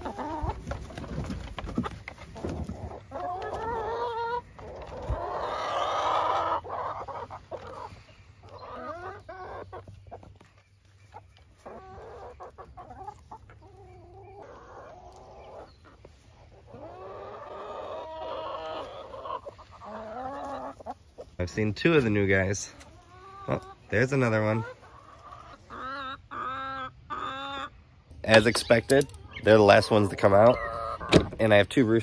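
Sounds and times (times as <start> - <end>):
chickens clucking and calling: 0.0 - 32.0.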